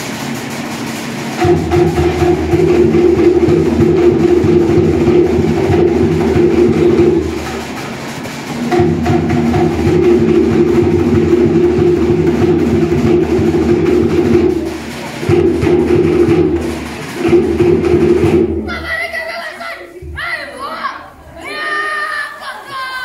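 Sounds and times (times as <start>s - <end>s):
deep drum: 0.0s - 19.0s
fast wooden drum beat: 0.0s - 19.4s.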